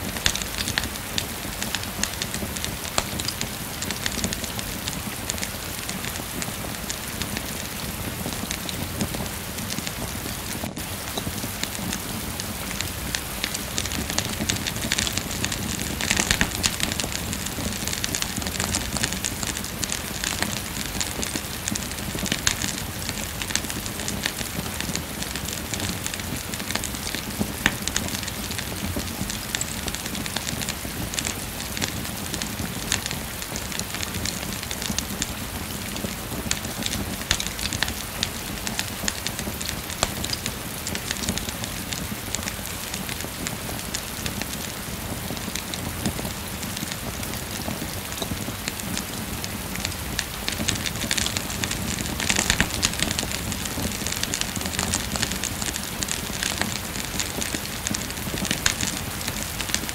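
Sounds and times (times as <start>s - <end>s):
steady rain falling: 0.0s - 59.9s
wood fire crackling: 0.0s - 59.9s.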